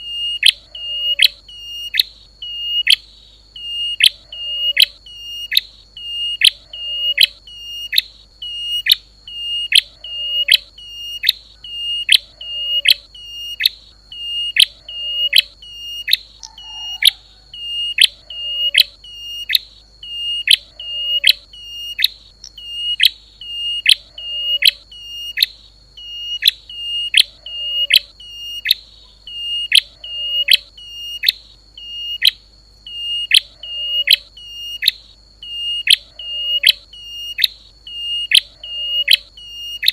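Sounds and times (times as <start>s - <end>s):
bird chirping: 0.0s - 39.9s
faint steady high tone: 0.0s - 39.9s.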